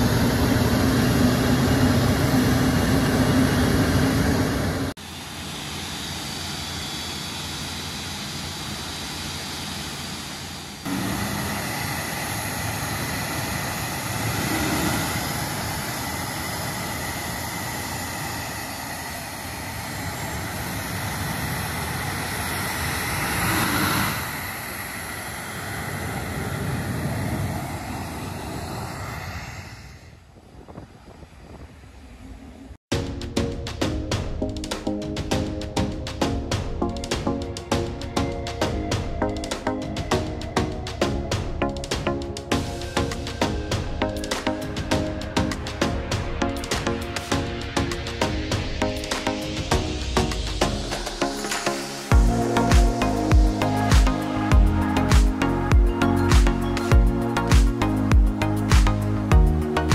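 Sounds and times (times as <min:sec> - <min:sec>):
high jet whine: 0:00.0 - 0:59.9
jet engines rumbling: 0:00.0 - 0:59.9.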